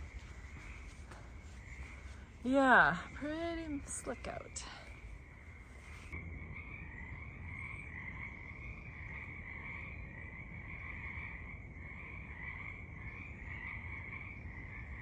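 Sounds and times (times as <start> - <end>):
frogs chorusing: 2.6 - 15.0.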